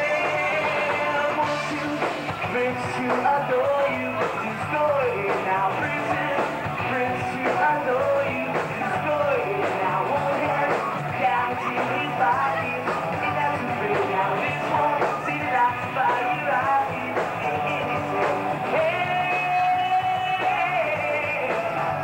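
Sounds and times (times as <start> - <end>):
bass guitar: 0.0 - 22.0
drums with cymbals: 0.0 - 22.0
person singing: 0.0 - 22.0.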